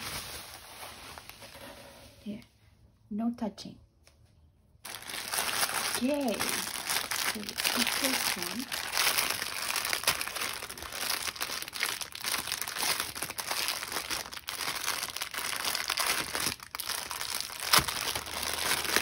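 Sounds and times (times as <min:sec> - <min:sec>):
packaging crinkling: 0:00.0 - 0:02.0, 0:04.8 - 0:19.0.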